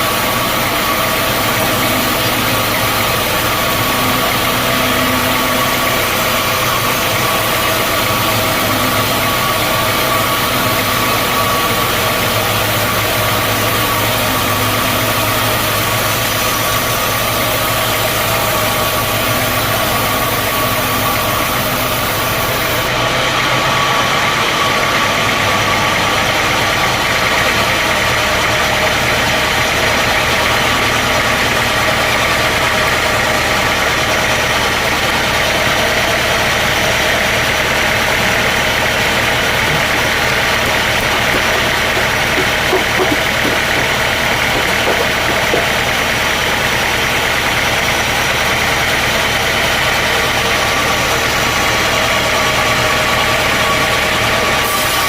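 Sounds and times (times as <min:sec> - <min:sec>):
constant machine whine: 0:00.0 - 0:55.0
sawmill machinery droning: 0:00.0 - 0:55.0.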